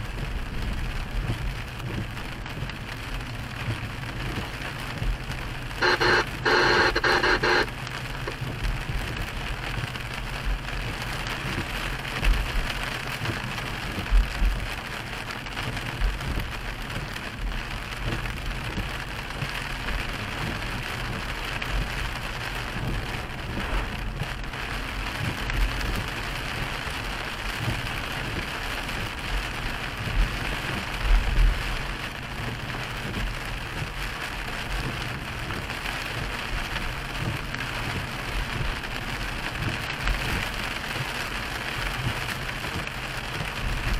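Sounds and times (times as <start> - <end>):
rain hissing on car windshield: 0.0 - 43.9
tyre noise on wet road: 0.0 - 43.9.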